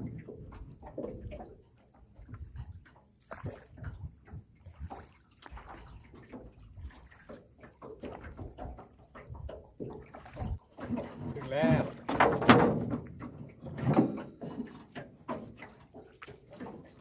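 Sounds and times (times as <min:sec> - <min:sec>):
boat knocks and rumbles: 0:00.0 - 0:05.0, 0:05.6 - 0:17.0
water splashing and sloshing: 0:00.0 - 0:17.0.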